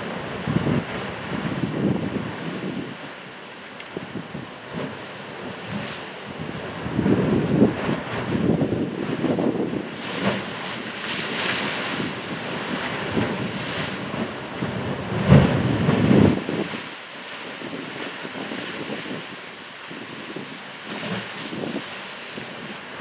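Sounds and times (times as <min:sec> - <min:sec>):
wind buffeting microphone: 0:00.0 - 0:03.1, 0:05.7 - 0:10.6, 0:11.5 - 0:22.9
surf washing in rocky gully: 0:00.0 - 0:23.0.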